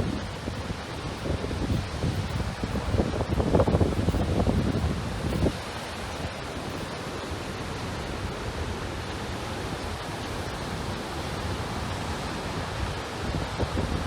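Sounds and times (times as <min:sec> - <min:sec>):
rush of turbulent water: 0:00.0 - 0:14.0.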